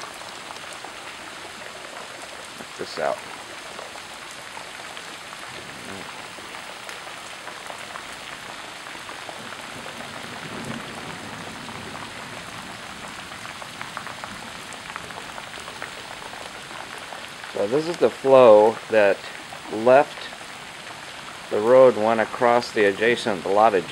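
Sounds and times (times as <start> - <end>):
floodwater rushing down street: 0.0 - 23.9.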